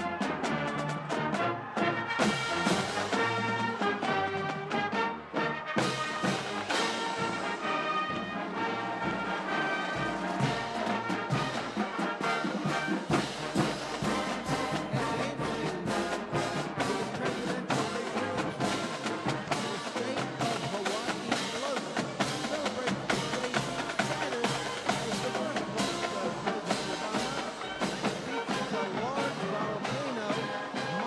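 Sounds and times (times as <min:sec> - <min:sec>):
marching band brass: 0:00.0 - 0:31.0
marching drum beat: 0:00.0 - 0:31.0.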